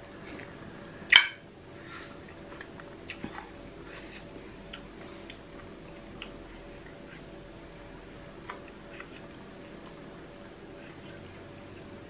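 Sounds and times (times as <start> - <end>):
person chewing food: 1.9 - 12.0.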